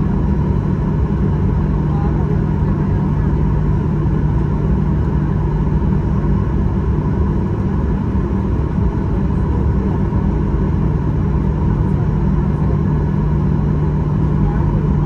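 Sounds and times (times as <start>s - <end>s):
jet engines low rumble and hum: 0.0s - 15.0s.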